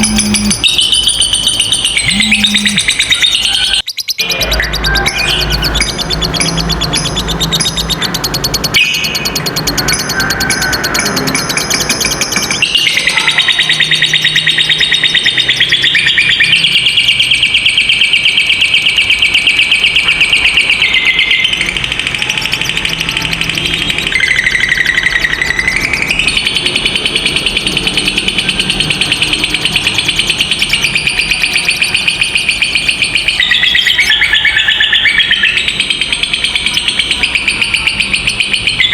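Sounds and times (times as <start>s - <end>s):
lovebird chattering trill: 0.0s - 38.9s.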